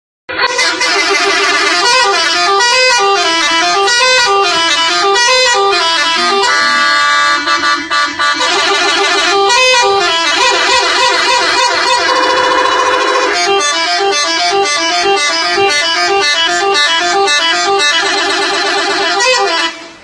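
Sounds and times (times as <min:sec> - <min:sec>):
bus musical air horns: 0:00.3 - 0:20.0.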